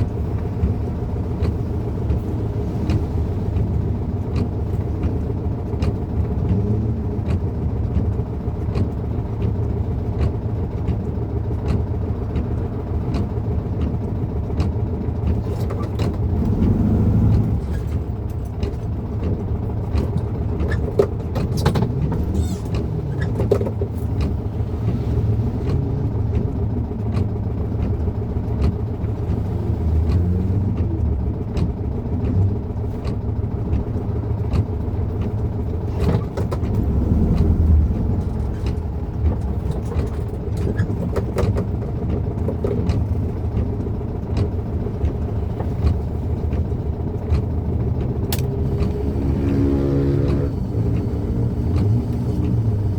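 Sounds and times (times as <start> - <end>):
car engine low rumble: 0.0 - 52.9.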